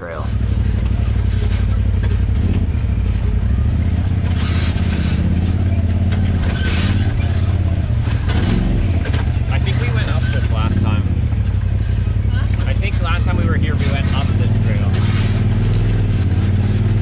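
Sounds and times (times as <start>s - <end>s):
utility vehicle engine running: 0.0s - 17.0s
knocks and rattles: 0.3s - 17.0s.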